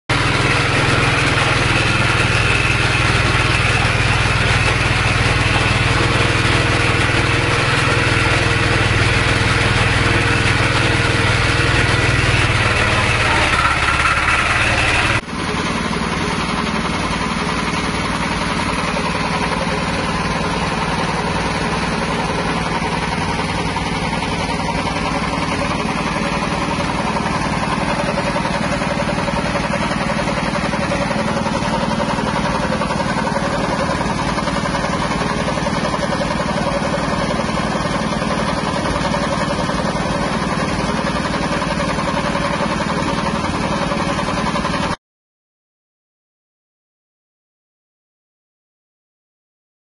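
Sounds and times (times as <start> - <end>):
small petrol engine running: 0.1 - 45.0.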